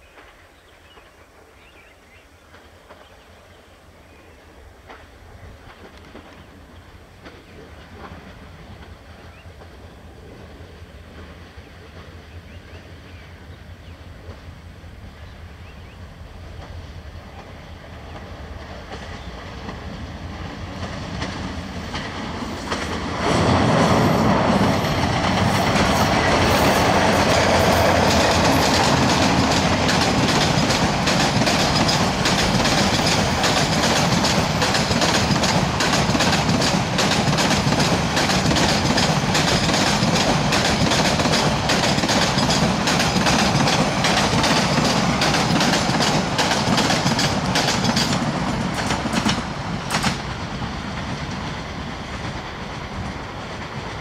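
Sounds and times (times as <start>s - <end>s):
passenger train approaching: 0.0s - 54.0s
wheels clickety-clack over rail joints: 0.1s - 3.7s, 4.6s - 13.3s, 14.1s - 54.0s.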